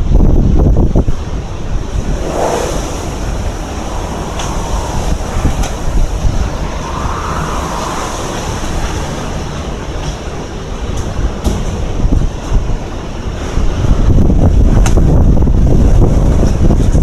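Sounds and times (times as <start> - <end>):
strong wind gusts buffeting microphone: 0.0 - 17.0.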